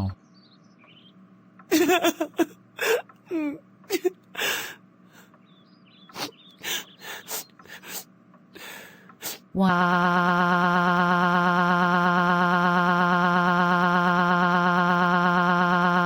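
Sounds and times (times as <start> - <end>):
person crying and sobbing: 1.7 - 5.3, 6.2 - 16.0.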